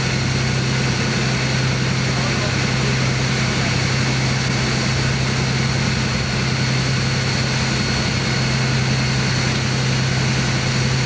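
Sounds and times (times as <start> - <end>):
diesel boat engine running: 0.0 - 11.0.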